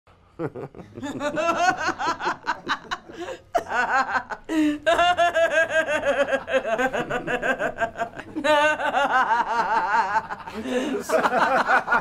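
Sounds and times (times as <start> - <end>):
people laughing together: 0.4 - 12.0.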